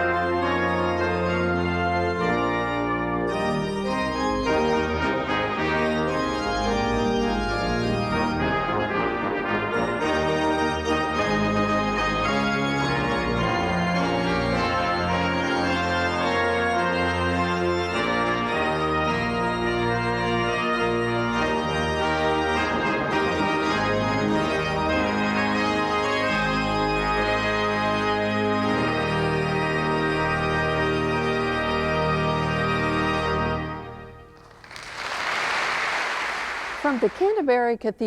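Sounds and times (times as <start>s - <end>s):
pipe organ playing chords: 0.0s - 34.6s.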